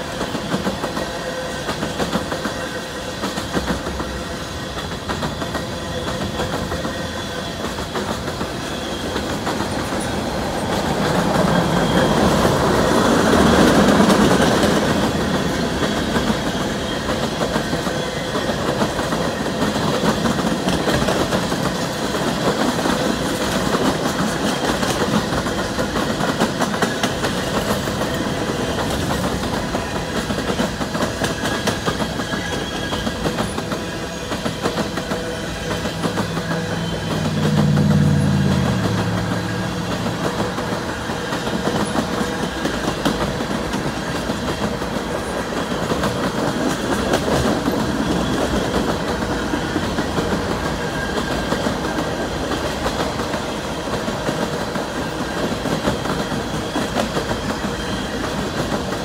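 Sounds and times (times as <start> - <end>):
clickety-clack of train wheels: 0.0 - 59.0
train wheels rumbling on rail: 0.0 - 59.0.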